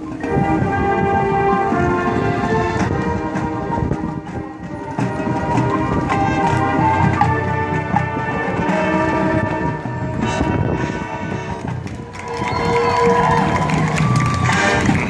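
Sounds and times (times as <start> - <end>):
brass chords: 0.0 - 15.0
drumline percussion: 0.0 - 15.0.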